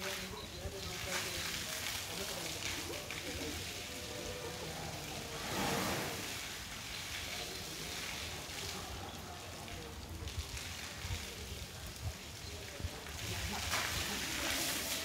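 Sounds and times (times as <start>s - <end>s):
water splashing on concrete: 0.0s - 15.0s.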